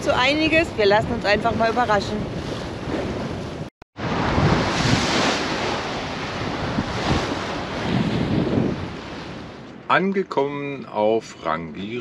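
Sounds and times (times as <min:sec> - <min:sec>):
wind buffeting microphone: 0:00.0 - 0:09.9
sea waves rushing: 0:00.0 - 0:10.0.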